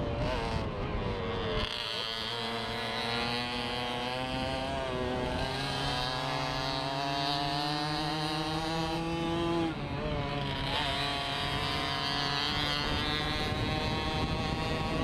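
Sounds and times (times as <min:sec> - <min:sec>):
moped engine revving high: 0:00.0 - 0:15.0.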